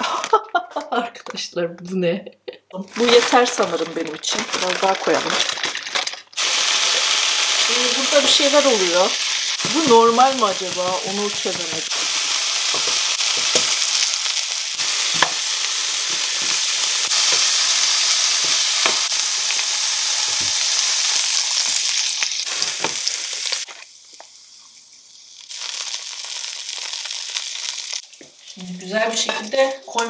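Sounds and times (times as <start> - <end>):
food sizzling in hot oil: 3.0 - 30.0.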